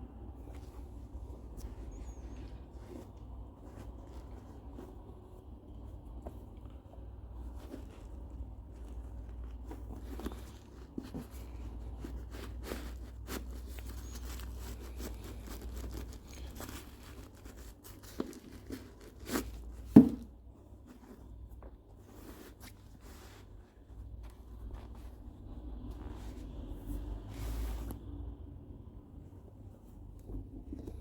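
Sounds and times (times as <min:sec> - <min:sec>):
low steady hum: 0:00.0 - 0:31.0
paper rustling and crinkling: 0:00.4 - 0:28.0.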